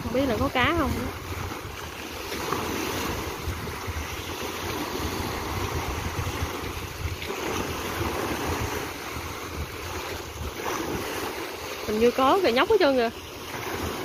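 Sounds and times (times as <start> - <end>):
small waves breaking on shore: 0.0 - 14.0
wind buffeting microphone: 0.0 - 14.0.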